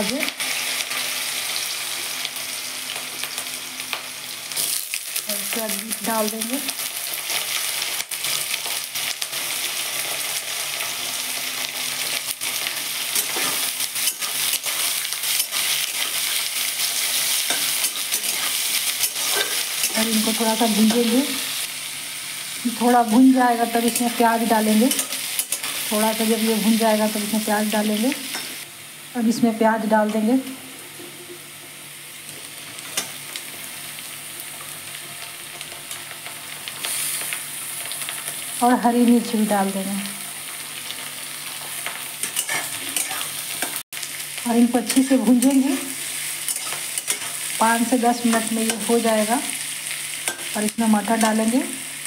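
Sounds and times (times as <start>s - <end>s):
vegetables sizzling in hot oil: 0.0s - 52.0s.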